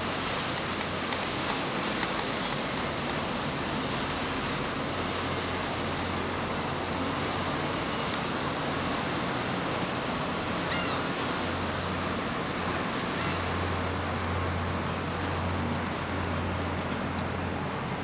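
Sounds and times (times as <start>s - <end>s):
distant city traffic: 0.0s - 18.0s
river water rushing: 0.0s - 18.0s.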